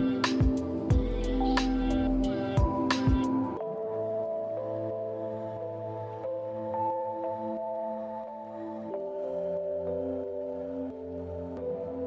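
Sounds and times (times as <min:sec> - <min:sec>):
ambient music with soft chords: 0:00.0 - 0:12.0.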